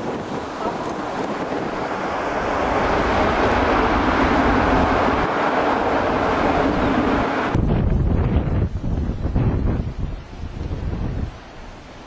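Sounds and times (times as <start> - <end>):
jet engines in reverse thrust: 0.0 - 9.9.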